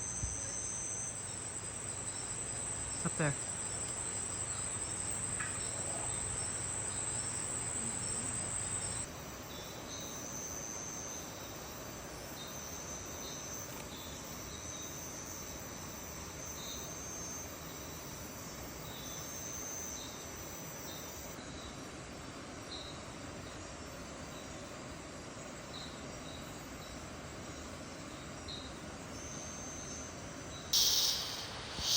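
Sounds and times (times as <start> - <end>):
soft high whine: 0.0 - 20.3, 20.9 - 31.9
insect chirps: 0.0 - 31.9
insect high drone: 0.0 - 31.9.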